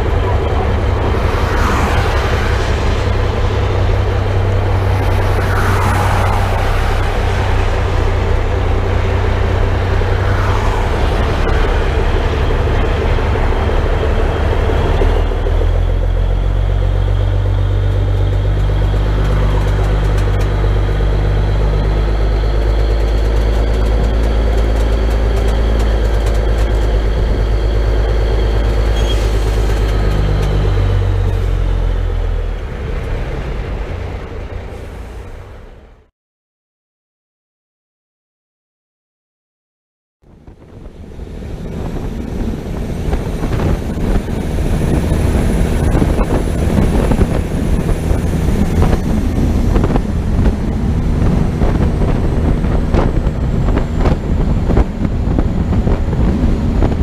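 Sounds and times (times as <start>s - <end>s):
truck diesel engine droning: 0.0s - 36.1s, 40.2s - 57.0s.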